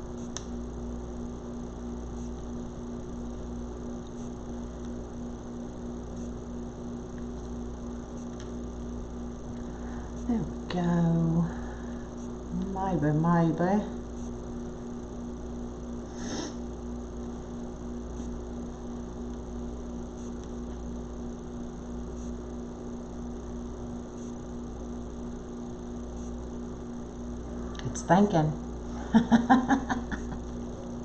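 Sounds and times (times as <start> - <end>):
room hum: 0.0 - 31.0.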